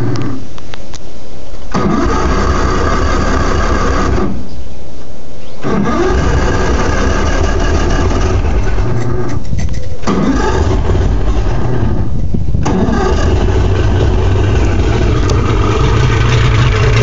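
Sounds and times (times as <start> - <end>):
outboard motor starter cranking: 1.7 - 4.4, 5.6 - 17.0.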